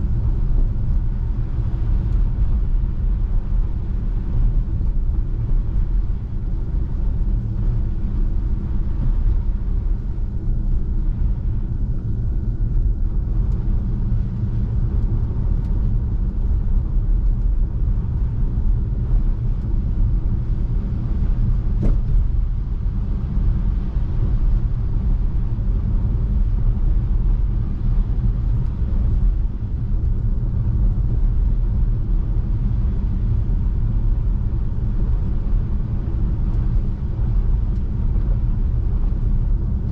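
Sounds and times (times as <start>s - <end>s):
tyre and road noise rumble: 0.0s - 39.9s.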